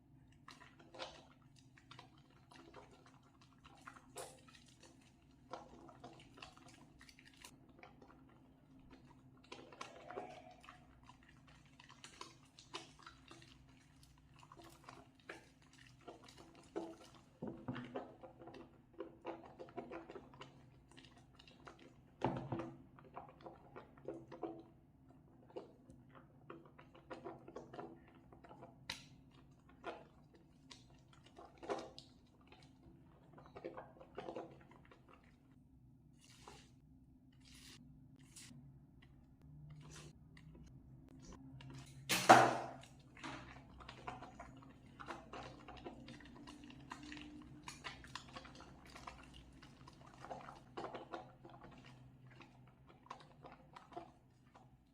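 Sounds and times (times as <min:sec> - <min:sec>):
wet hands lathering soap: 0:00.0 - 0:22.2, 0:22.8 - 0:39.1, 0:42.8 - 0:54.9.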